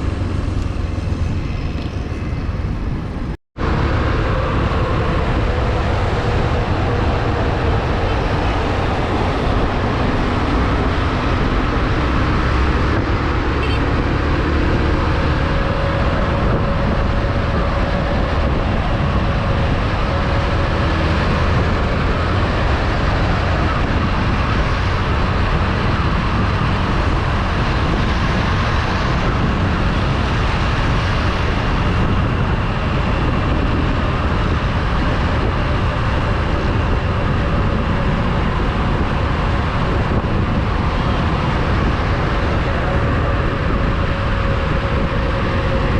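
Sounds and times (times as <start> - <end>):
motorcycle engine hum: 0.0 - 45.9
wind and road noise: 0.0 - 45.9.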